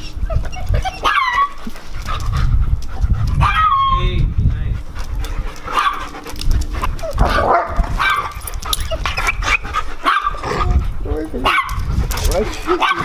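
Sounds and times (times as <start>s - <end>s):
dogs barking and yipping: 0.0s - 4.0s, 4.8s - 13.0s
low rumble: 0.0s - 12.8s.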